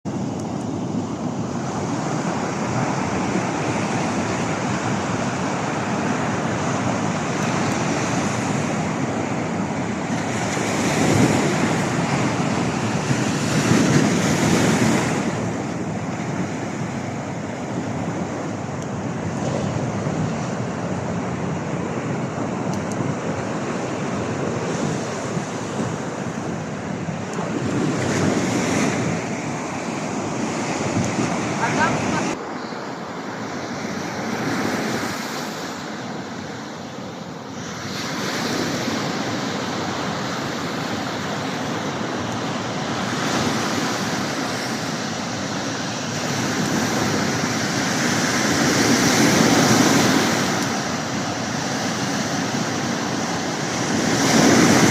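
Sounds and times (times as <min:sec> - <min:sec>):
waves washing onto shore: 0:00.1 - 0:54.9.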